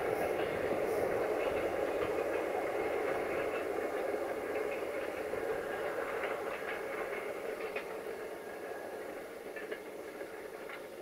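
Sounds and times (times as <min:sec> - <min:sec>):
faint clicks: 0:00.0 - 0:11.0
train wheels rumbling on rails: 0:00.0 - 0:11.0.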